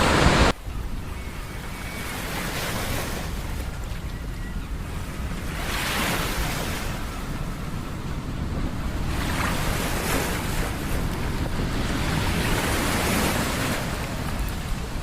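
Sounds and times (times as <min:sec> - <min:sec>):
ocean waves breaking: 0:00.0 - 0:15.0
wind rumble on microphone: 0:00.0 - 0:15.0.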